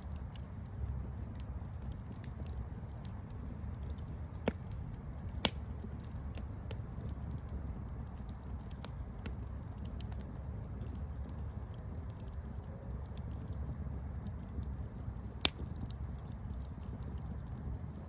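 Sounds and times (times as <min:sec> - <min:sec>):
campfire crackling: 0:00.0 - 0:18.0
low rumble of fire: 0:00.0 - 0:18.0.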